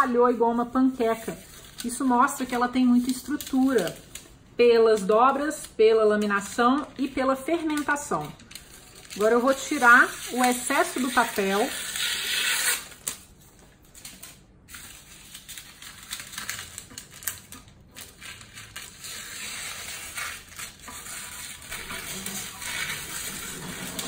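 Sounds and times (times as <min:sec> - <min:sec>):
paper crackling: 0:00.9 - 0:24.0.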